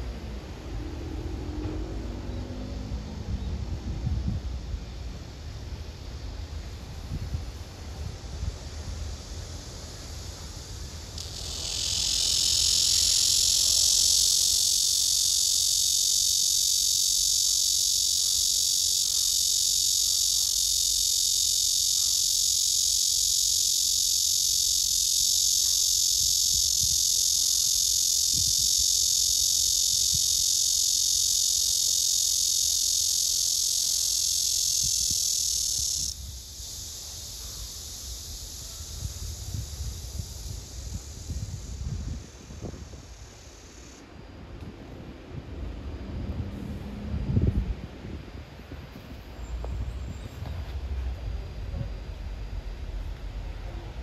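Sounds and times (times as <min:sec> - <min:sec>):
cicada buzzing: 0:00.0 - 0:48.5, 0:49.2 - 0:54.0.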